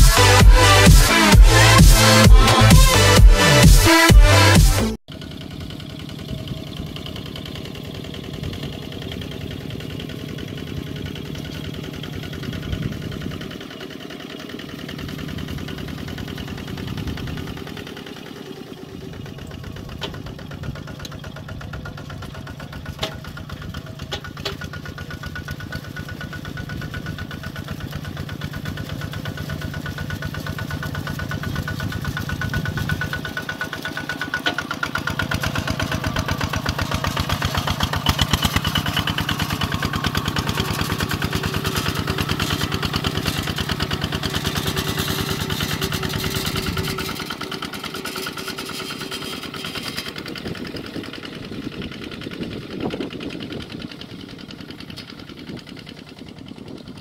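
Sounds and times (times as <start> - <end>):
diesel tractor engine chugging: 0.0 - 57.0.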